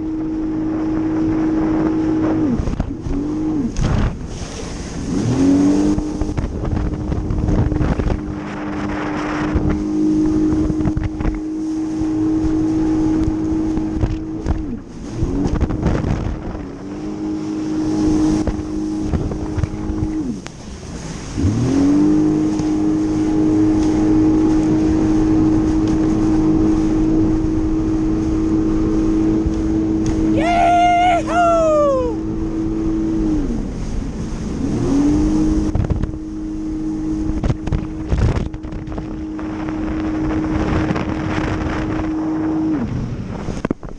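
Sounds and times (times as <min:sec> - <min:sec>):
jet ski engine running: 0:00.0 - 0:43.9.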